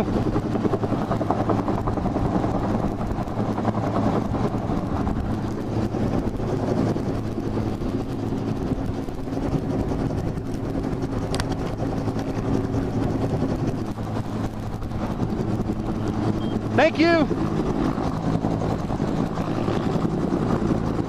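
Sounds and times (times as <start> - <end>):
helicopter hovering overhead: 0.0 - 21.0.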